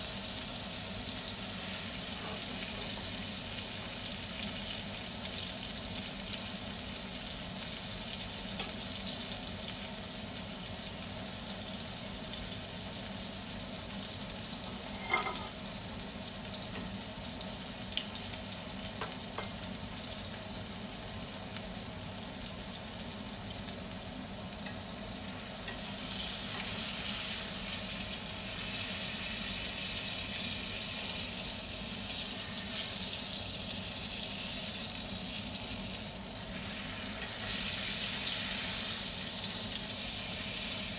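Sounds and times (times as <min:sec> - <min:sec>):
steak sizzling in a skillet: 0:00.0 - 0:40.9.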